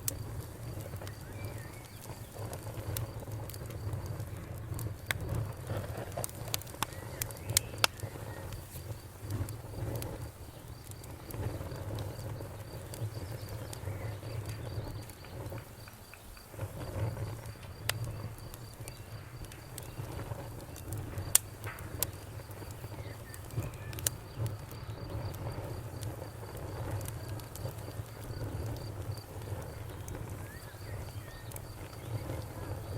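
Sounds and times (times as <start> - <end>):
campfire flames rumbling: 0.0 - 32.9
fire crackling and popping: 0.0 - 32.9.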